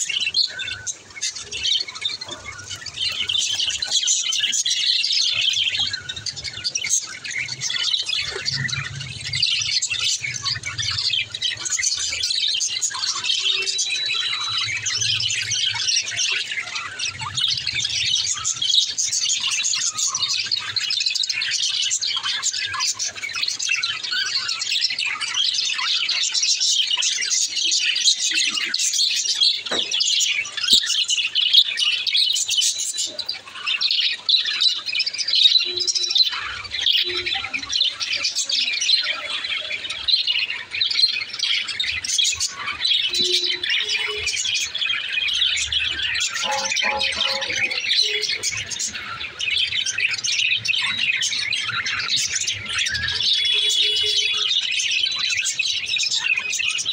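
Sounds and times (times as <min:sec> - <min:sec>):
budgerigars chirping and chattering: 0:00.0 - 0:56.9.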